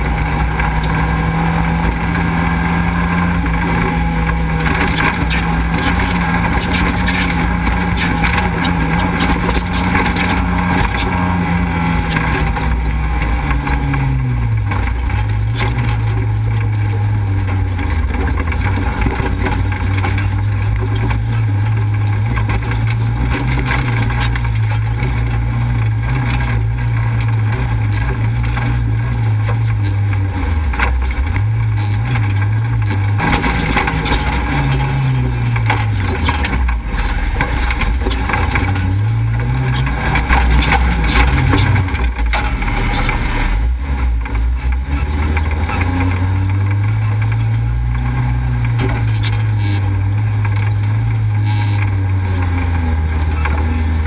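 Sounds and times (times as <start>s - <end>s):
off-road vehicle engine running hard: 0.0s - 54.0s
rough rushing road noise: 0.0s - 54.0s.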